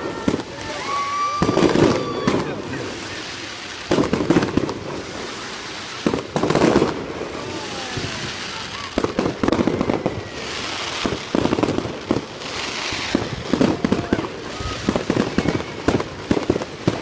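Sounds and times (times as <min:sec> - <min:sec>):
fireworks hissing crackle: 0:00.0 - 0:17.0
fireworks popping and banging: 0:00.0 - 0:17.0.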